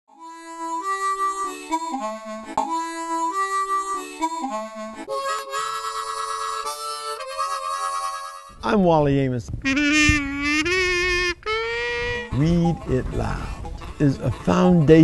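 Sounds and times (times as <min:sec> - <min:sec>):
harmonica playing: 0:00.1 - 0:08.6, 0:09.6 - 0:15.0.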